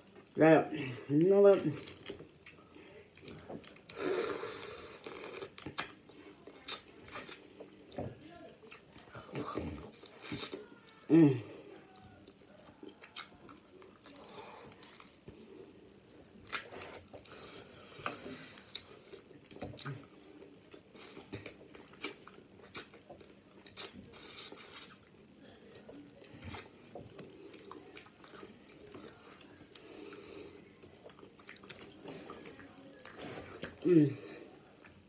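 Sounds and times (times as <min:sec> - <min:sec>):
wet chewing and sucking: 0:01.8 - 0:07.8, 0:08.7 - 0:11.1, 0:11.9 - 0:25.2, 0:26.2 - 0:33.8.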